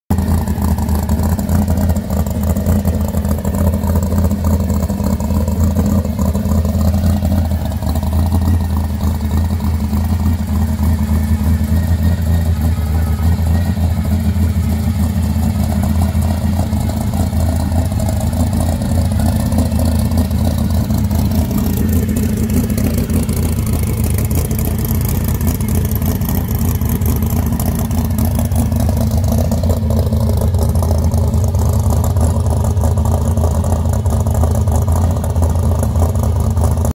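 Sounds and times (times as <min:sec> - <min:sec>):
car engine idling with exhaust rumble: 0:00.1 - 0:36.9.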